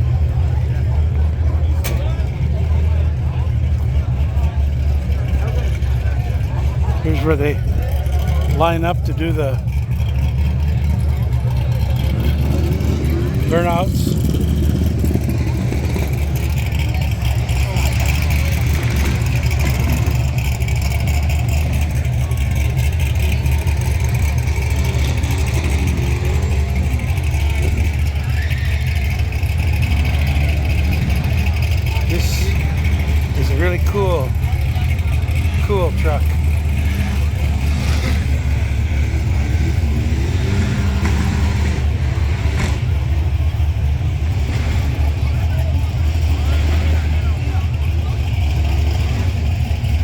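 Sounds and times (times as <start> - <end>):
car engines idling: 0.0 - 50.0
faint voices: 0.0 - 50.0.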